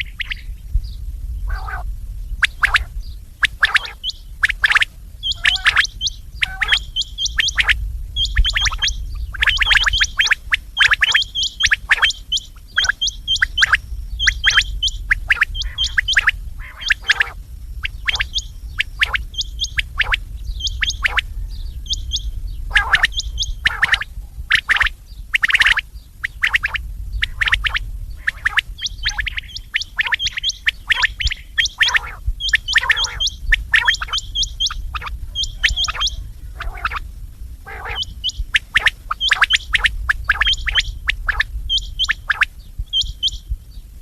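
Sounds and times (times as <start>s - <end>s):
quails calling: 0.0s - 0.6s, 1.4s - 43.6s
steady low hum: 0.0s - 44.0s.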